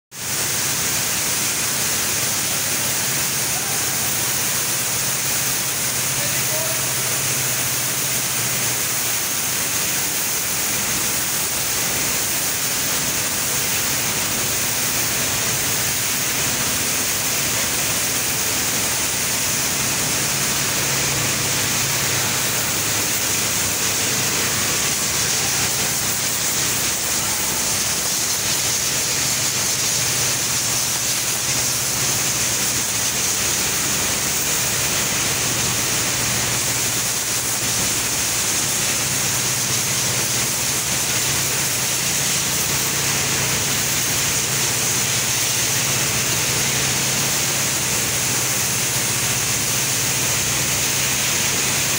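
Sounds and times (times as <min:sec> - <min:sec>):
milling machines running: 0:00.2 - 0:51.9.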